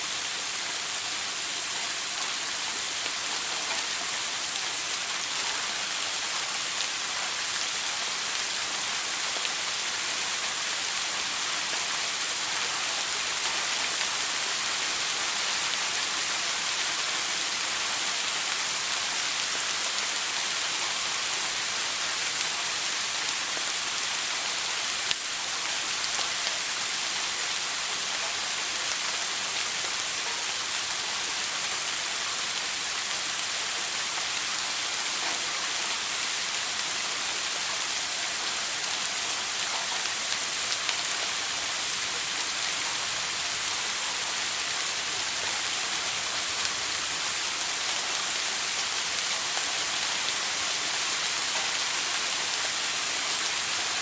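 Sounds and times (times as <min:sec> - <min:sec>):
shower water spray hissing: 0:00.0 - 0:54.0.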